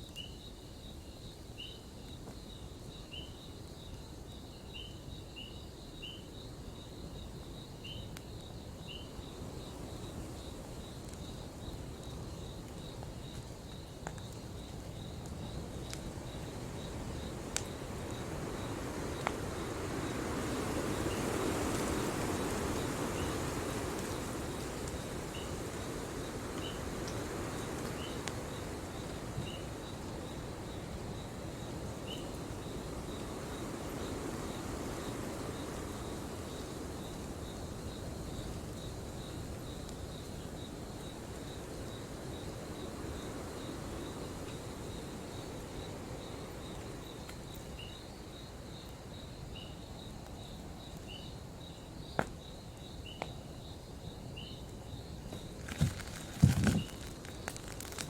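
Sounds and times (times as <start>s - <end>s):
campfire crackle: 0.0s - 58.0s
crickets chirping: 0.0s - 58.0s.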